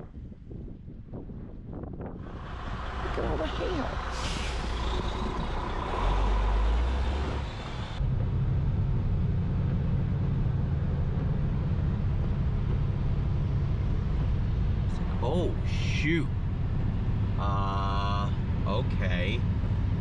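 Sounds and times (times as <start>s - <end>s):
car road noise: 2.0s - 20.0s
car engine drone: 2.2s - 20.0s.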